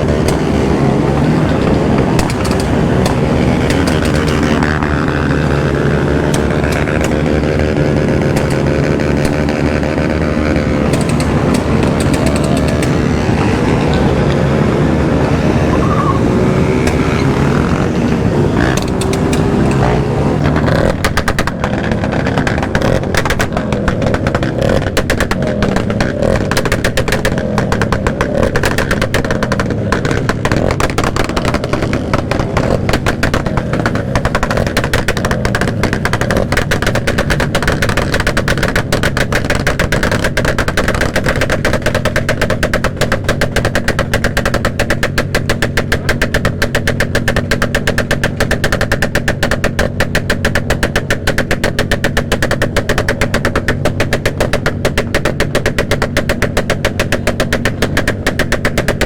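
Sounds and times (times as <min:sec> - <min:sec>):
motorcycle engines running: 0:00.0 - 0:59.0
rapid sharp pops: 0:00.0 - 0:59.0.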